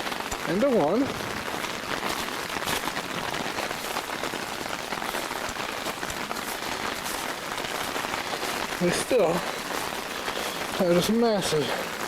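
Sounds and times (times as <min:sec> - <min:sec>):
hard rain falling: 0:00.0 - 0:12.0
runoff water flowing: 0:00.0 - 0:12.0.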